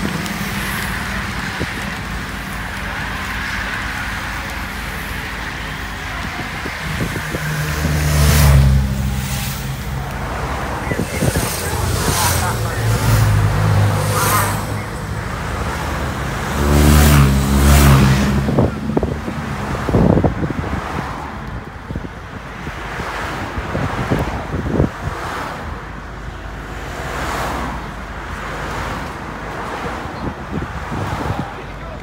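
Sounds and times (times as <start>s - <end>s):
motorcycles and cars passing by: 0.0s - 25.9s, 26.5s - 32.0s.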